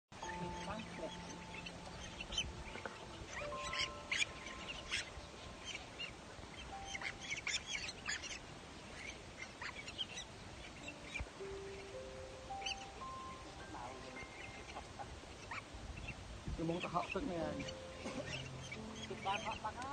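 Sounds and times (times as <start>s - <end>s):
chicks squeaking: 0.2s - 19.9s.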